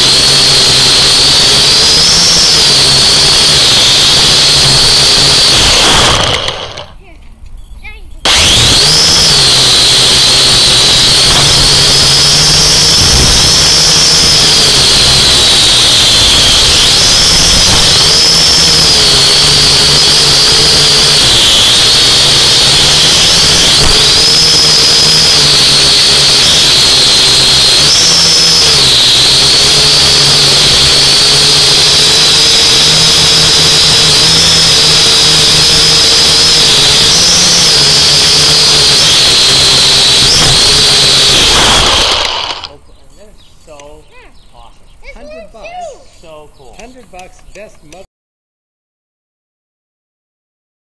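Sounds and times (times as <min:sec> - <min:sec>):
drone propellers whining: 0:00.0 - 0:07.0, 0:08.2 - 0:42.8.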